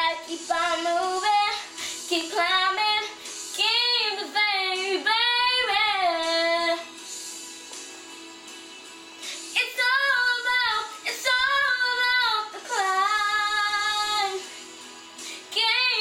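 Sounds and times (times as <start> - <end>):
girl singing a pop ballad: 0.0 - 7.4, 9.2 - 16.0
soft backing track: 0.0 - 16.0.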